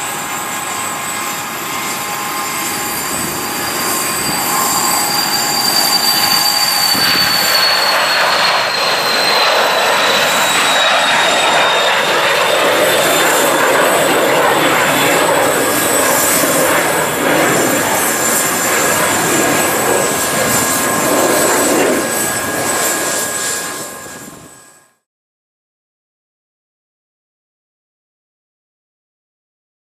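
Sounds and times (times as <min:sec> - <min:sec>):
jet taking off with high whine: 0:00.0 - 0:25.1.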